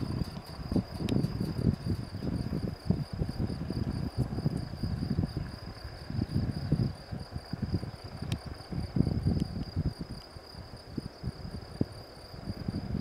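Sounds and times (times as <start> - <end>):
crickets trilling: 0.0 - 13.0
helicopter rotor rumble: 0.0 - 13.0.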